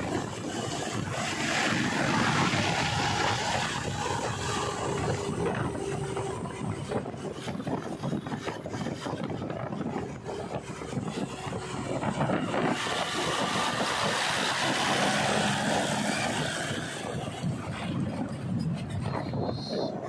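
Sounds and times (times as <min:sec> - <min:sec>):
tractor diesel engine passing: 0:00.0 - 0:20.0.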